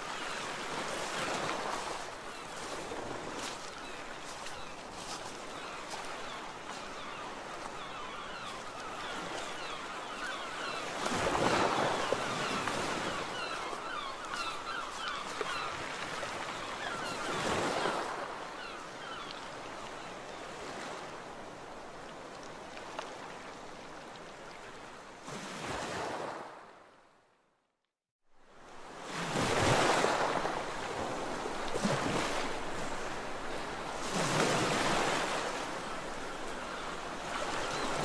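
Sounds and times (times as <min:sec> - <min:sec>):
sea waves breaking on shore: 0:00.0 - 0:26.9, 0:28.4 - 0:38.0.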